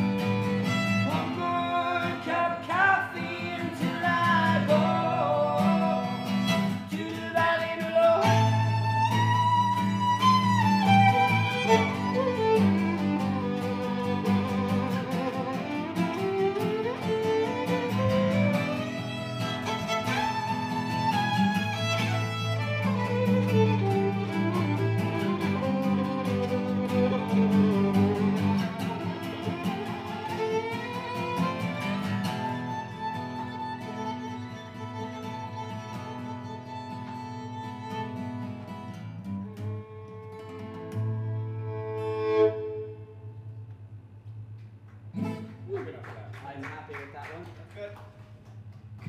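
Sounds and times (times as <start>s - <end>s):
violin gliding melody: 0.0s - 2.1s, 3.9s - 6.9s, 8.2s - 38.7s, 39.4s - 43.3s
strummed acoustic guitar: 0.0s - 46.0s.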